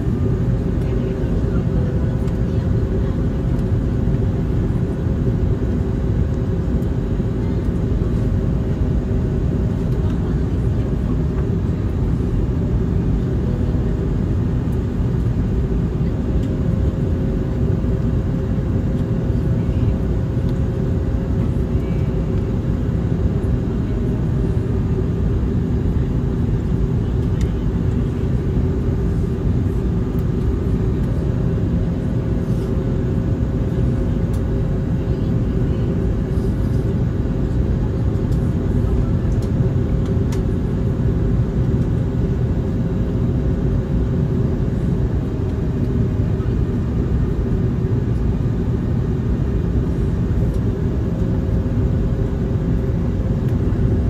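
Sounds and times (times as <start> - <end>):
airplane cabin rumble: 0.0 - 54.0
jet engines: 0.0 - 54.0.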